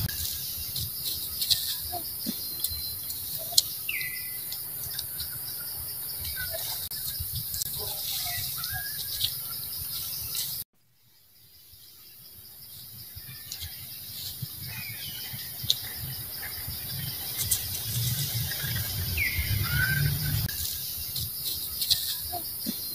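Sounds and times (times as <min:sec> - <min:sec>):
high-pitched insect buzz: 0:00.0 - 0:22.9.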